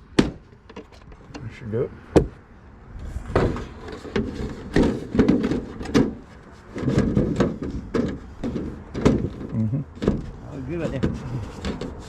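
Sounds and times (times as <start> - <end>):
aluminum trim clunking and rattling: 0.2 - 1.5, 3.4 - 12.0.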